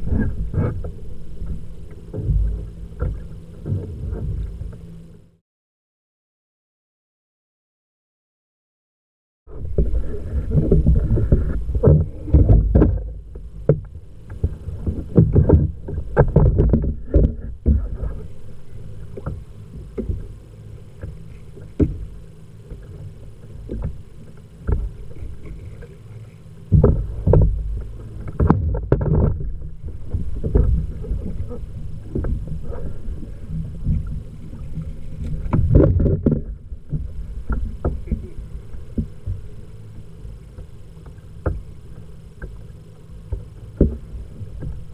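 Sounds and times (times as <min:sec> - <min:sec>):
water lapping against kayak hull: 0:00.0 - 0:05.4, 0:09.5 - 0:44.9.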